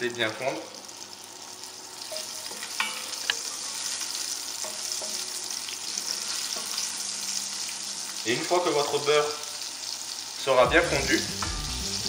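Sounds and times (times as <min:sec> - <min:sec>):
butter sizzling in hot oil: 0:00.0 - 0:12.0.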